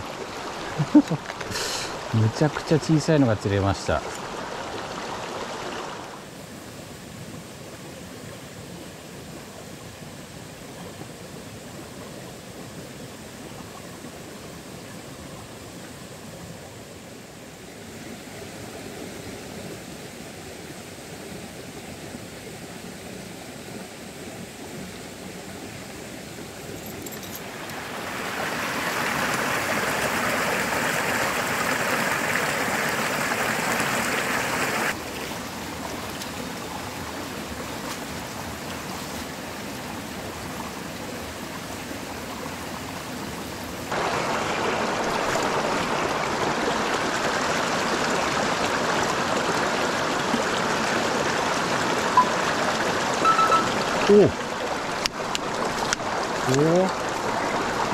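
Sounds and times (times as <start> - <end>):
stream water rushing over rocks: 0.0 - 57.9.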